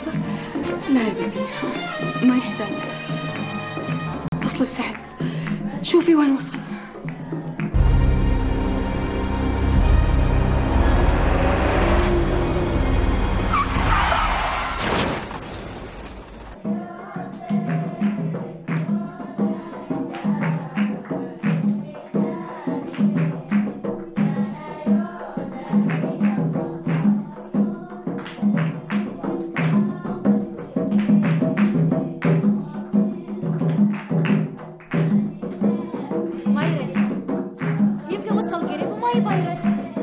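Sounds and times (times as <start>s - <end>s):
music with steady drum beat: 0.0s - 10.3s, 16.6s - 40.0s
rapid percussion strikes: 0.0s - 13.3s, 16.5s - 40.0s.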